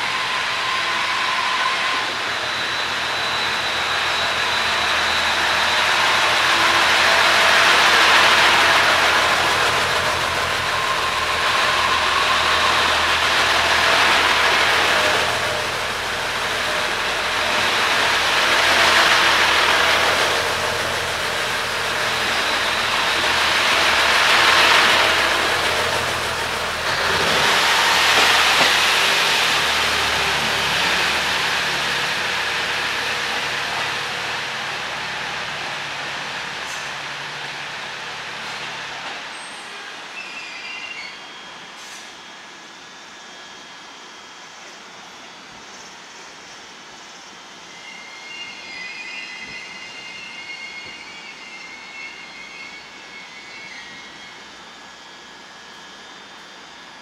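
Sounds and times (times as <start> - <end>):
diesel train engine running: 0.0 - 40.2, 41.2 - 57.0.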